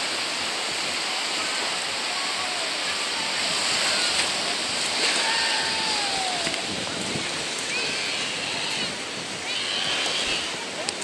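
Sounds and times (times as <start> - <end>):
waves washing over shore: 0.0 - 11.0.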